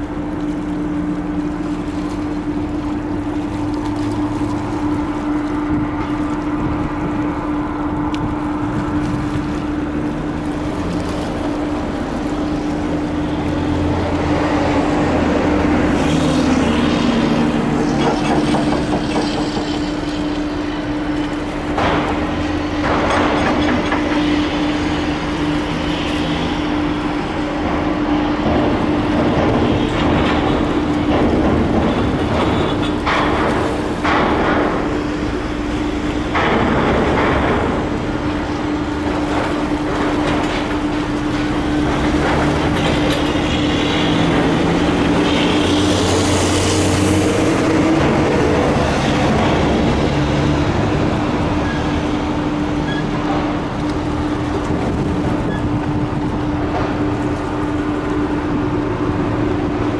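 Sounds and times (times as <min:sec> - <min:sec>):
heavy machinery hum: 0:00.0 - 0:59.9
low engine drone: 0:00.0 - 0:59.9.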